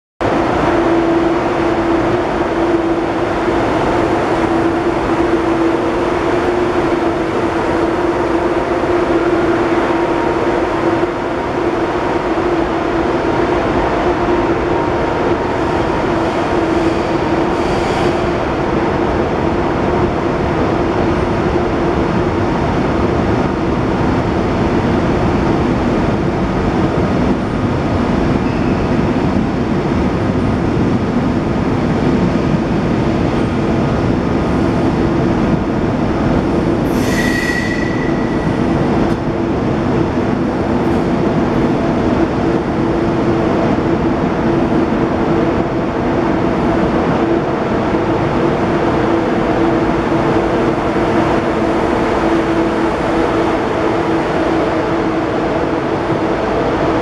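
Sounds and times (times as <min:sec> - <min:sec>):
high-speed train passing: 0:00.2 - 0:57.0.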